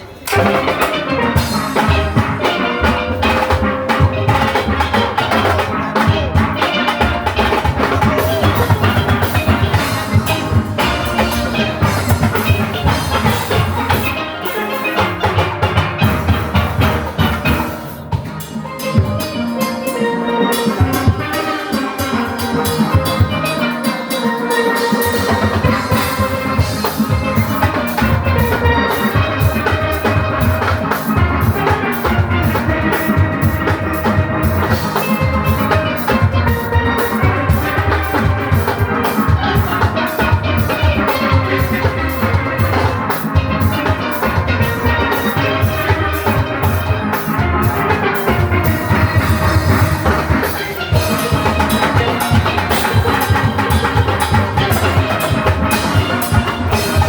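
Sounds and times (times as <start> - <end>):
drum kit beat: 0.0 - 57.0
steelpans playing a rhythmic tune: 0.0 - 57.0.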